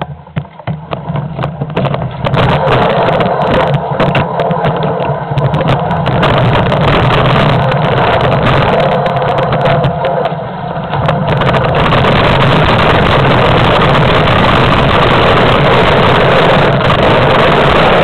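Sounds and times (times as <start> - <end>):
mountain bike rattling: 0.0 - 18.0
wind on microphone: 0.0 - 18.0.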